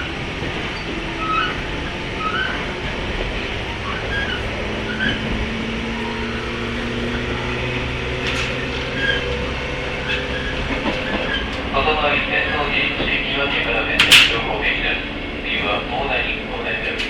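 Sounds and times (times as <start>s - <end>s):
traction motor hum: 0.0s - 16.9s
wheel and rail rumble: 0.0s - 17.0s.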